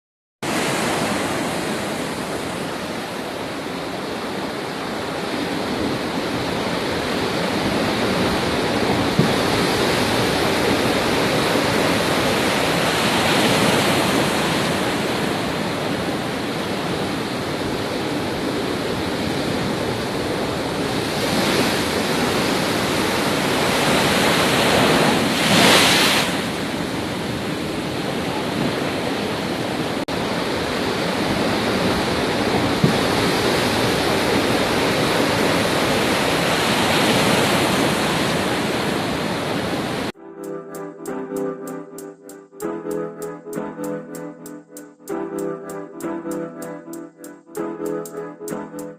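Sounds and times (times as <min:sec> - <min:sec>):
storm wind and rain rushing: 0:00.4 - 0:40.1.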